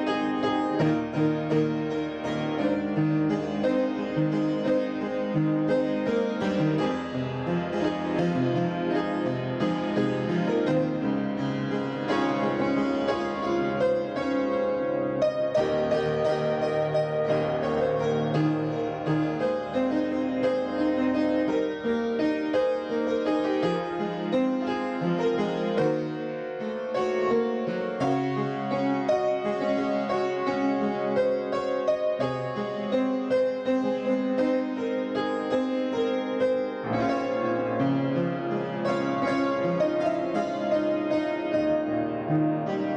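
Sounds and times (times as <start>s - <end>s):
keyboard instrumental music: 0.0s - 42.9s.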